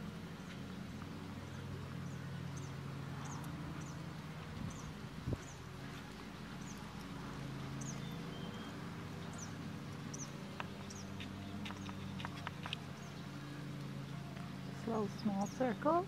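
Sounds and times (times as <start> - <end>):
horse hooves on sand: 0.0 - 16.0
bird chirping: 0.4 - 16.0.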